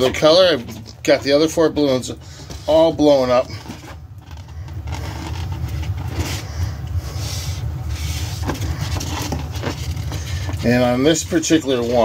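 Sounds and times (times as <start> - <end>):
balloons rubbing and bumping: 0.0 - 12.0.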